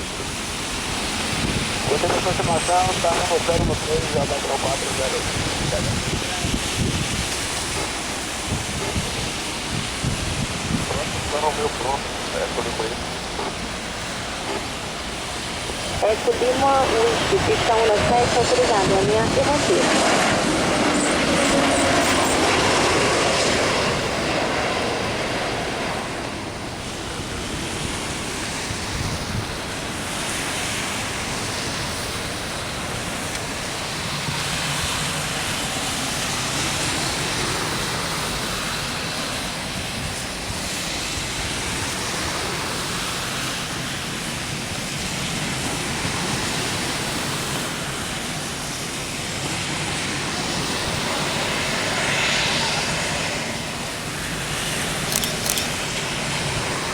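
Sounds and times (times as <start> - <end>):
distant jet engines roaring: 0.0 - 56.9.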